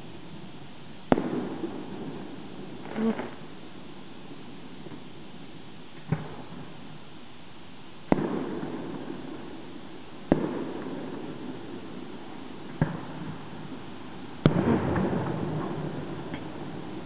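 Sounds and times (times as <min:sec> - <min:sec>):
fireworks bangs with rumbling echo: 0:00.0 - 0:07.1, 0:08.0 - 0:17.0.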